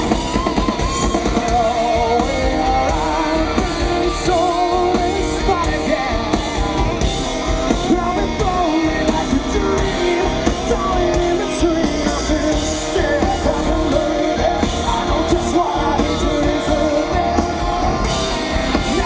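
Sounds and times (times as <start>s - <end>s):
live rock band playing: 0.0s - 19.0s
person singing: 0.0s - 19.0s.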